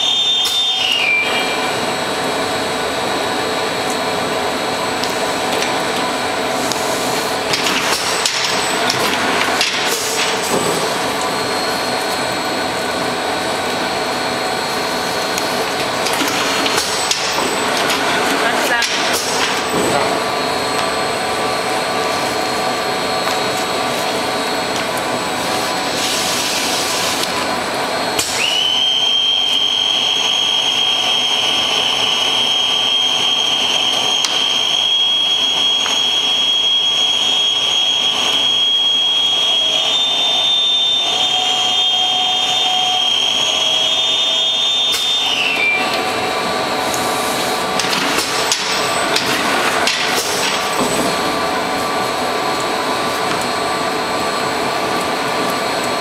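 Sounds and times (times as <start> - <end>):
high steady whine: 0.0 - 56.0.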